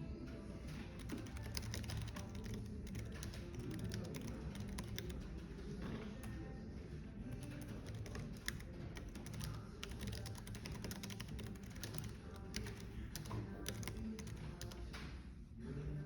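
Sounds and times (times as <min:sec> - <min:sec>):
soft background music: 0:00.0 - 0:16.0
typing on computer keyboard: 0:00.6 - 0:15.2.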